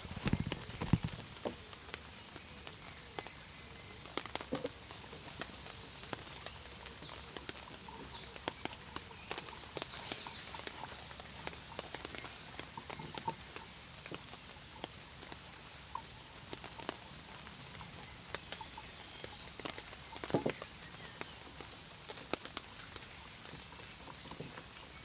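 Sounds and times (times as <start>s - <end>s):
raindrops pattering: 0.0s - 25.0s.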